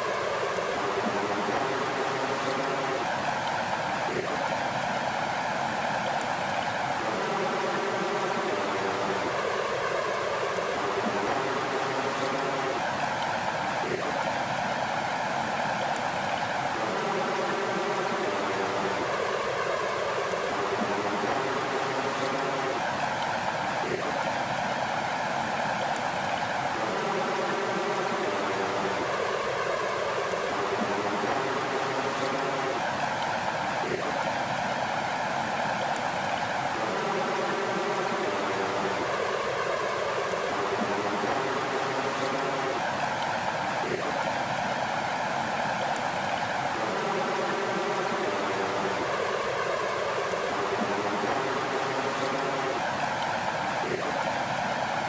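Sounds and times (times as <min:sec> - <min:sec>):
flowing water babbling: 0:00.0 - 0:55.0.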